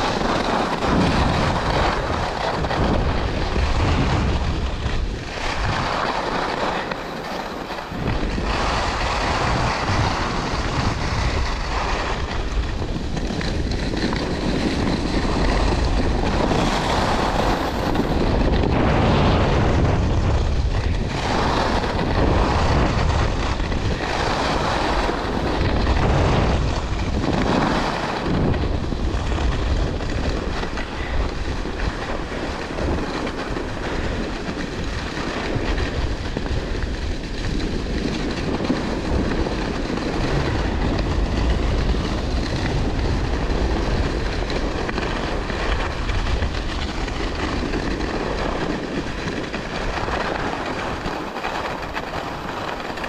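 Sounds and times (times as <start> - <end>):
skis scraping over snow: 0.0 - 53.0
wind on microphone: 0.0 - 53.0.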